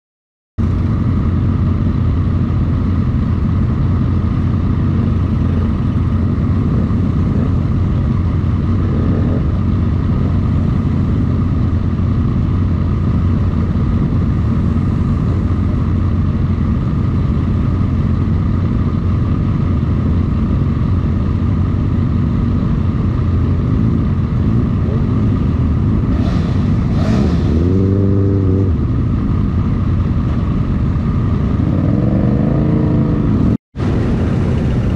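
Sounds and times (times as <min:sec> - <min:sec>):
motorcycle engine revving: 0:00.6 - 0:34.9
motorcycles idling: 0:00.6 - 0:34.9.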